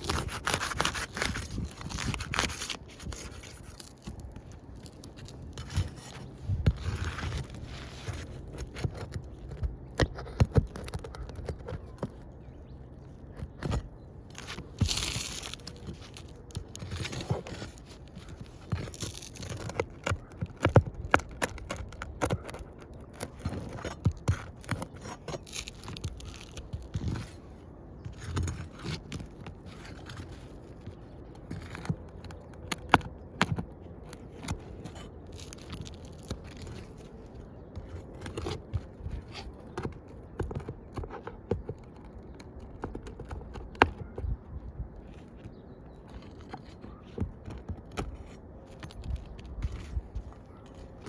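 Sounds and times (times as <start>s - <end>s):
scraping and rustling: 0.0s - 44.1s, 45.0s - 51.0s.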